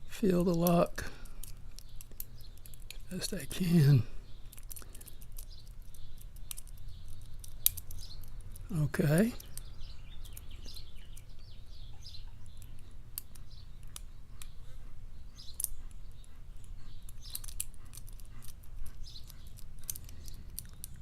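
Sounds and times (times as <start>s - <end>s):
faint metallic lock pick clicks: 0.6s - 3.1s, 4.4s - 11.5s, 12.4s - 14.6s, 15.4s - 21.0s.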